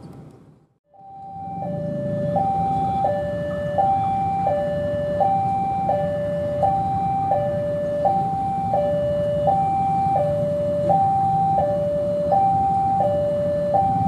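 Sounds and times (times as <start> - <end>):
two-tone level crossing alarm: 0.9 - 14.0.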